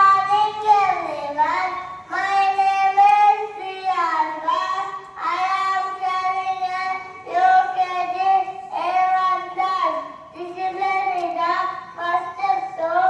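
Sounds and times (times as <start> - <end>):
child singing: 0.0 - 13.0.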